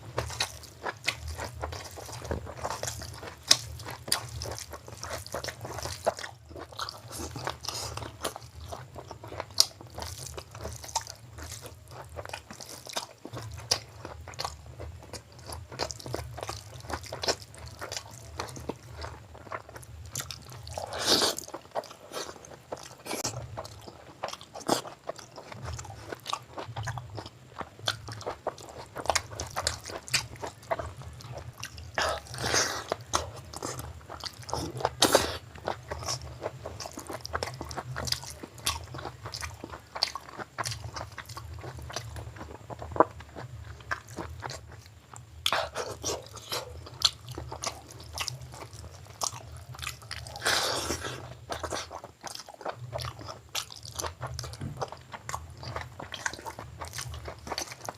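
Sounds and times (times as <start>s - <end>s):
person chewing food: 0.0s - 57.9s.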